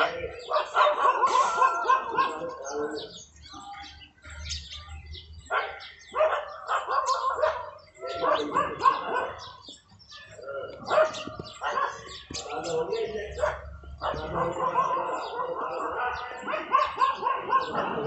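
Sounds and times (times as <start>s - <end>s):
dog barking: 0.0s - 2.8s, 5.5s - 18.0s
birds chirping: 0.0s - 18.0s.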